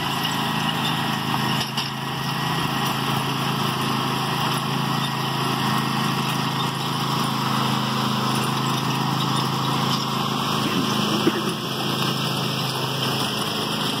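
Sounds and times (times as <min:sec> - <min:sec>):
riding lawn mower engine running: 0:00.0 - 0:14.0.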